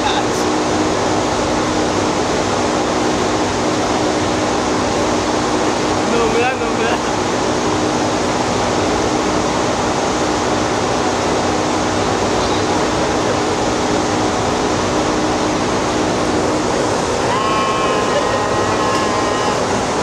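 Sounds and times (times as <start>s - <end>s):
loud roar of plant equipment: 0.0s - 20.0s
steady hum: 0.0s - 20.0s.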